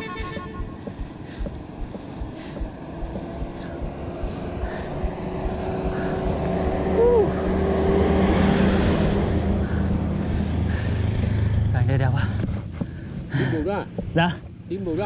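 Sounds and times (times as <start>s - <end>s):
minibus engine passing: 0.0s - 12.7s.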